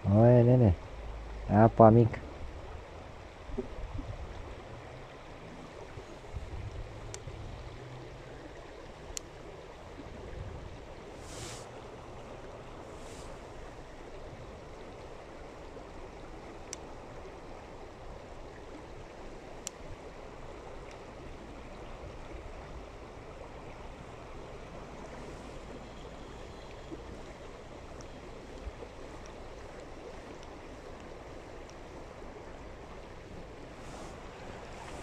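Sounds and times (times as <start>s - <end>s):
rushing outdoor noise: 0.0s - 35.0s.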